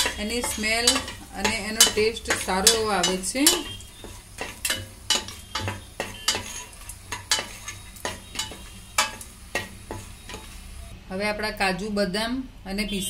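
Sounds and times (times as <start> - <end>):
spatula scraping pot bottom: 0.0 - 10.8
faint sizzle: 0.0 - 11.0.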